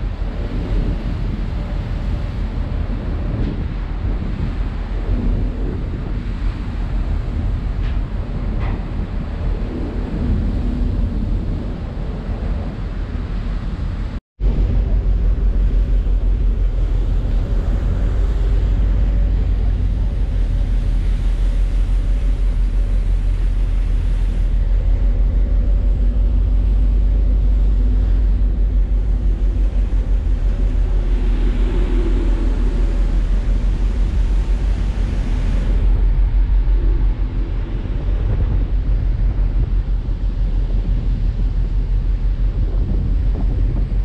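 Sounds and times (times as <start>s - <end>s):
ship engine drone: 0.0s - 44.0s
wind buffeting microphone: 0.0s - 44.0s.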